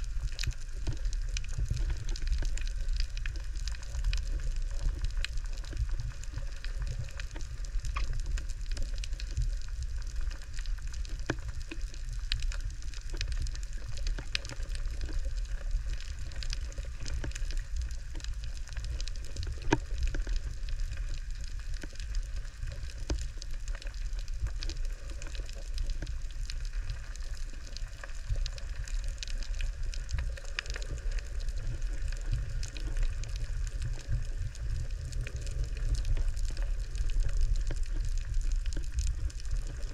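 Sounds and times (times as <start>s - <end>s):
low underwater rumble: 0.0s - 39.9s.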